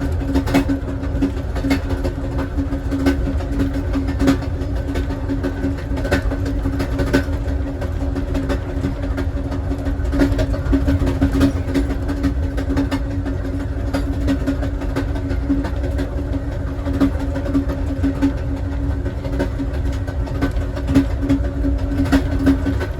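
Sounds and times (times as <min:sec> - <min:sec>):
constant hum: 0:00.0 - 0:22.9
train wheels rumbling on rail: 0:00.0 - 0:22.9.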